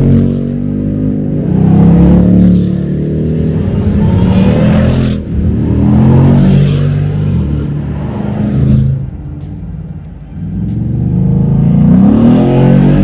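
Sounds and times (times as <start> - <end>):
sports car engines accelerating: 0.0 - 13.0.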